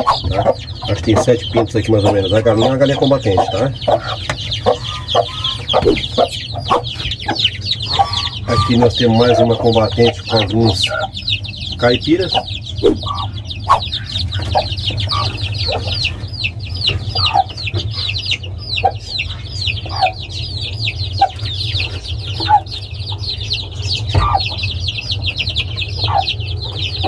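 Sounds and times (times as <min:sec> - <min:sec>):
chicks peeping: 0:00.0 - 0:27.0
hen clucking: 0:00.0 - 0:27.0.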